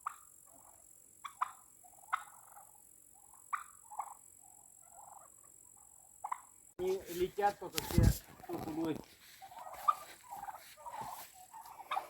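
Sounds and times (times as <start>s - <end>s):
turkeys calling sharply: 0.0s - 12.0s
turkeys warbling softly: 0.0s - 12.0s.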